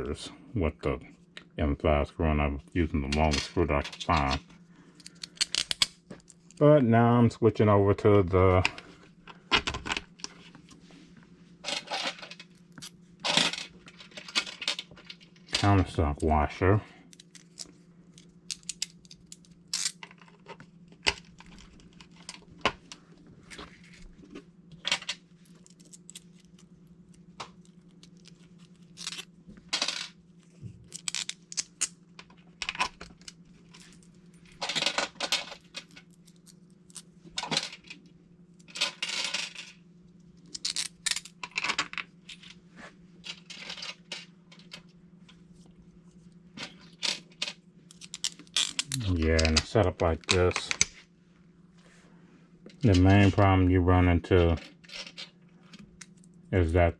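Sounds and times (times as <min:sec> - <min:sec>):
faint steady hum: 0:00.0 - 0:56.9.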